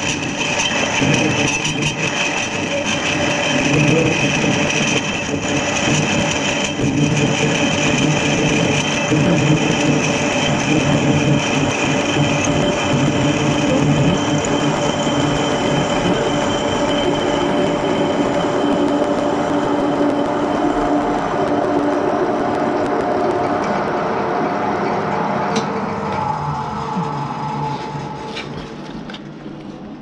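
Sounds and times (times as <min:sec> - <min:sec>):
lathe tool cutting steel: 0:00.0 - 0:28.6
metal lathe running: 0:00.0 - 0:29.9.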